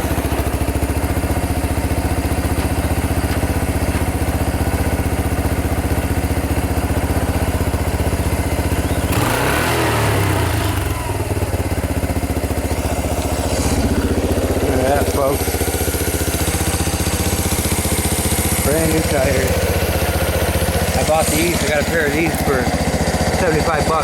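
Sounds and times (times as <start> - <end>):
three-wheeler engine running: 0.0 - 24.0.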